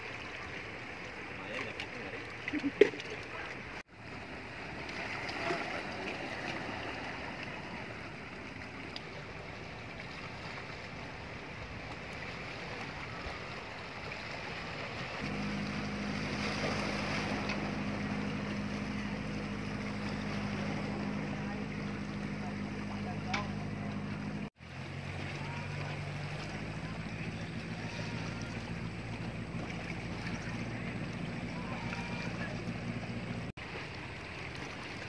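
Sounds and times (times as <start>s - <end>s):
boat engine humming: 0.0s - 35.0s
sea water washing over rocks: 0.0s - 35.0s
wind: 0.0s - 35.0s.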